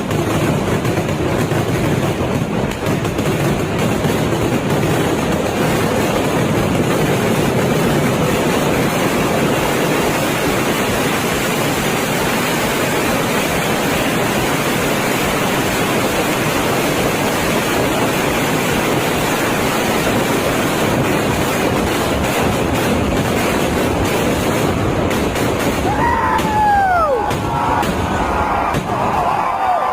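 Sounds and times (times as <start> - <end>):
fireworks barrage: 0.0 - 29.9.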